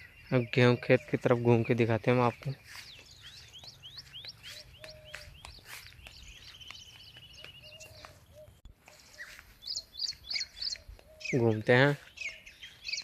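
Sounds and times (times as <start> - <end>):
bird trill: 0.0 - 13.0
birds chirping: 0.0 - 13.0.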